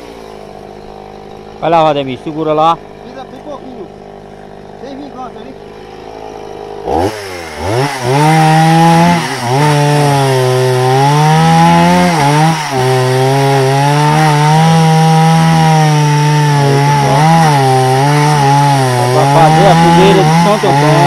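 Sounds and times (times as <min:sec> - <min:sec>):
chainsaw cutting through log: 0:00.0 - 0:21.0.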